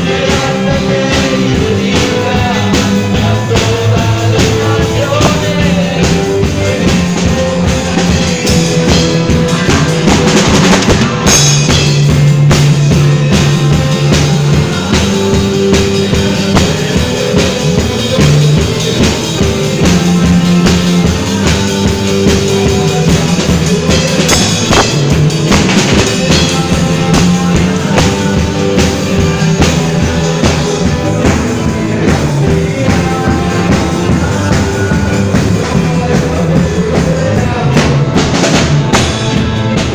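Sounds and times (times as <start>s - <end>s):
band playing instrumental: 0.0s - 39.9s
bass line: 0.0s - 39.9s
drum kit beat: 0.0s - 39.9s.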